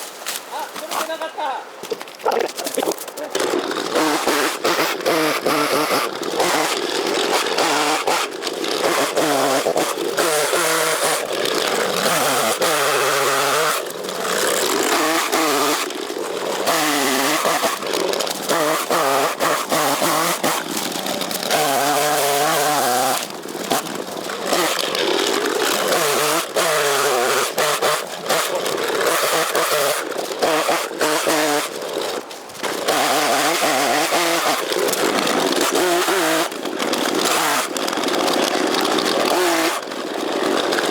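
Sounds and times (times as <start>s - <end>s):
chainsaw cutting wood: 1.8s - 40.9s.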